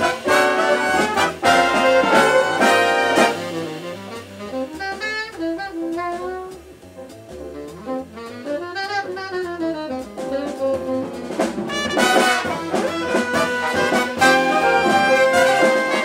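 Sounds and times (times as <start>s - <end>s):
saxophone solo: 0.0s - 6.7s, 7.6s - 16.0s
brass section playing: 0.0s - 6.8s, 7.6s - 16.0s
drums: 0.0s - 16.0s.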